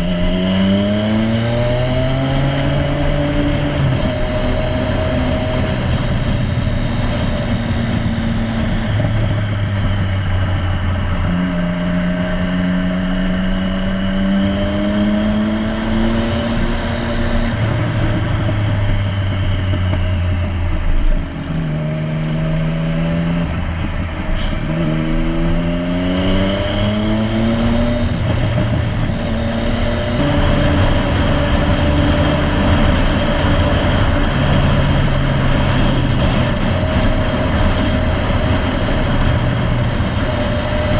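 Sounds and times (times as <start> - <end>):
motorcycle engine shifting gears: 0.0 - 40.9
rushing noise: 0.0 - 40.9.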